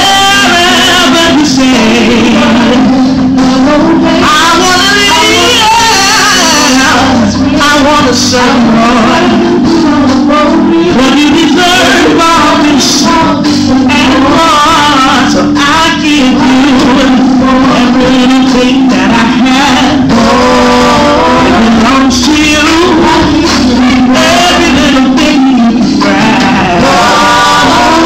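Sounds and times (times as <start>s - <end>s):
backing singers: 0.0s - 28.0s
drums: 0.0s - 28.0s
keyboard: 0.0s - 28.0s
woman singing lead: 0.0s - 28.0s.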